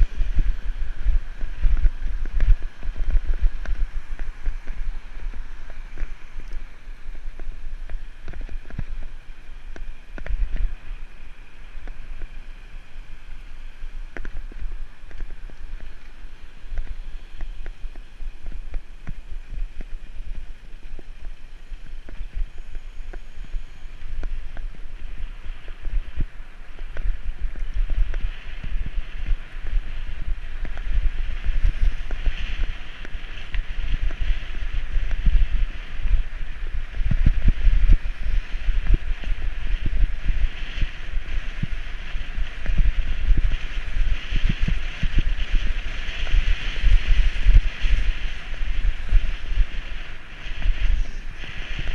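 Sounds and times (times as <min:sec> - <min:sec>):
road and tyre noise: 0:00.0 - 0:51.9
wind buffeting microphone: 0:00.0 - 0:51.9.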